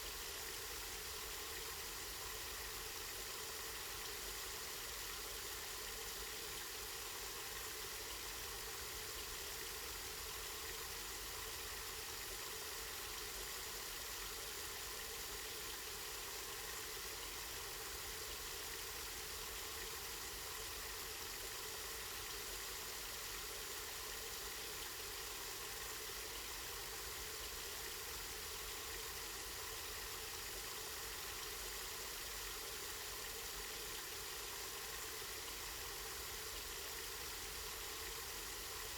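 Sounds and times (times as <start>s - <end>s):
spring water flowing and splashing: 0.0s - 38.9s.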